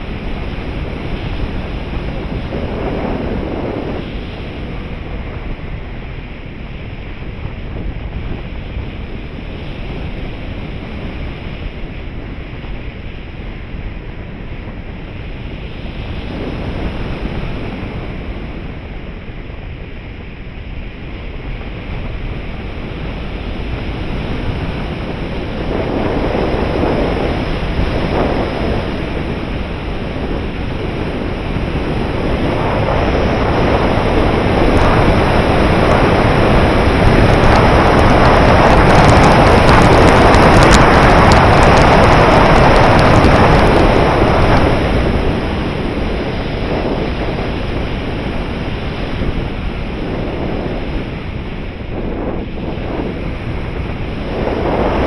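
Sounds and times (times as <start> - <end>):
wind noise on microphone: 0.0 - 55.0.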